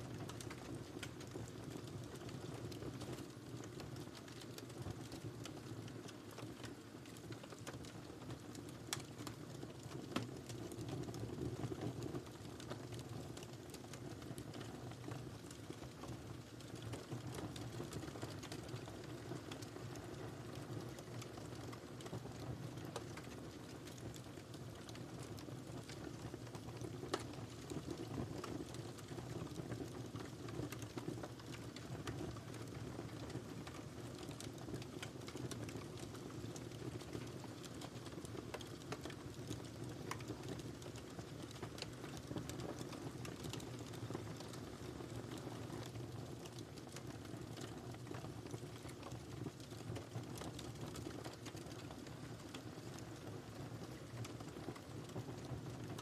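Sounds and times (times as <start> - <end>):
wood fire crackling: 0.1 - 56.0.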